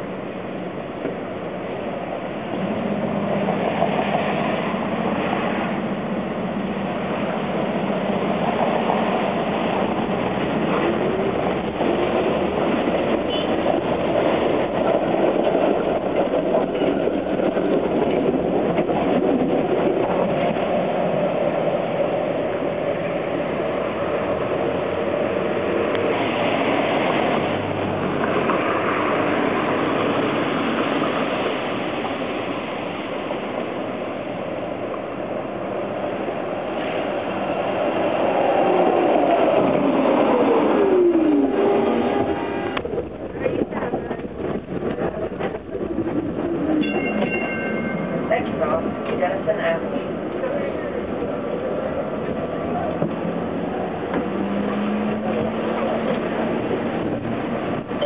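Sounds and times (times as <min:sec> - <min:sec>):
streetcar wheels on rails: 0:00.0 - 0:58.0
traffic on wet pavement: 0:00.0 - 0:58.0.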